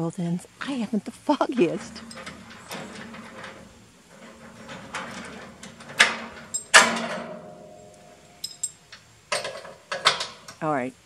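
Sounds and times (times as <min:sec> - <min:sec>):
low steady hum: 0:00.0 - 0:11.0
metal hitch clanking: 0:00.6 - 0:10.6
light metallic clinks: 0:01.6 - 0:10.6.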